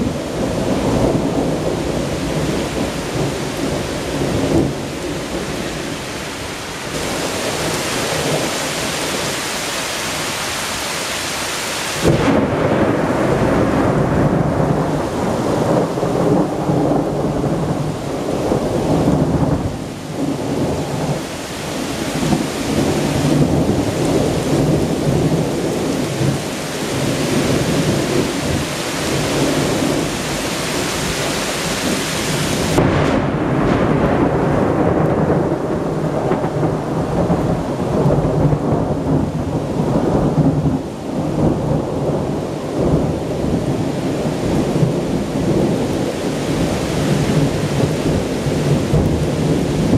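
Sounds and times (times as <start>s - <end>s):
rolling thunder: 0.0s - 9.3s, 12.0s - 49.9s
heavy rain: 0.0s - 49.9s.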